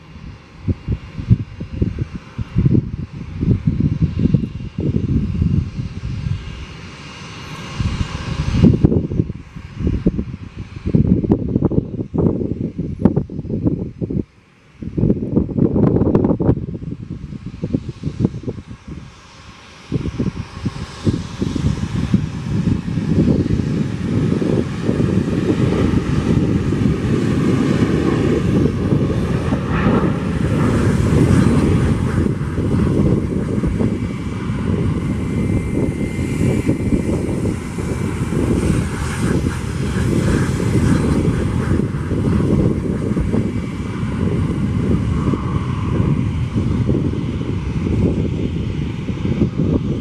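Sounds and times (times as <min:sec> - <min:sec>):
jet engines at takeoff power: 0:00.0 - 0:50.0
wind buffeting microphone: 0:00.0 - 0:50.0.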